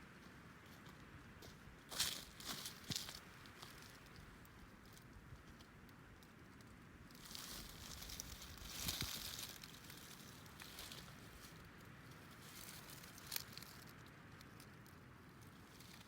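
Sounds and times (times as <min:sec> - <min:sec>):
low steady hiss: 0:00.0 - 0:16.0
rustling and crinkling: 0:01.4 - 0:16.0.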